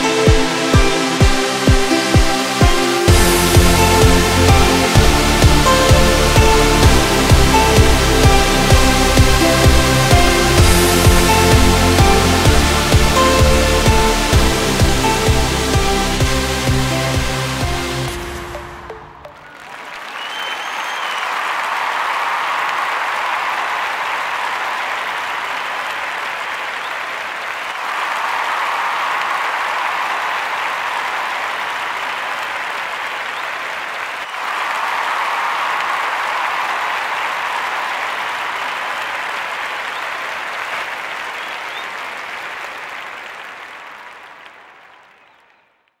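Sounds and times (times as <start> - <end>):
crowd applauding: 0.0 - 45.9.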